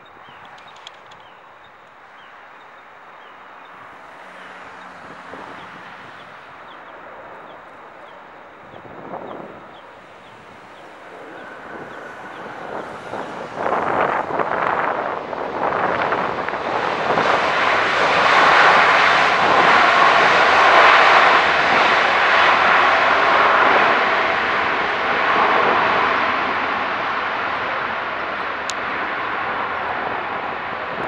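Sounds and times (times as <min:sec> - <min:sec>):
jet engines rushing: 0:00.0 - 0:31.0.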